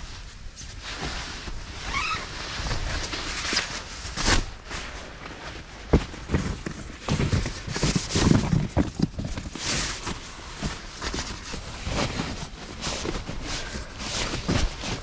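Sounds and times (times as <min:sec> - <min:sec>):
camping gear rustling: 0:00.1 - 0:15.0.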